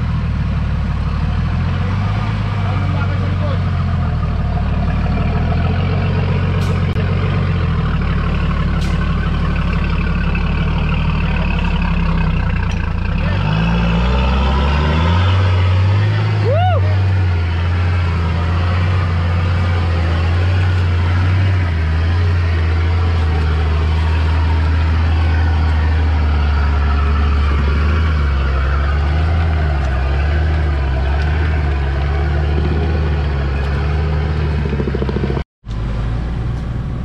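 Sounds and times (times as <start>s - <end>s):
diesel engine running under load: 0.0s - 37.0s.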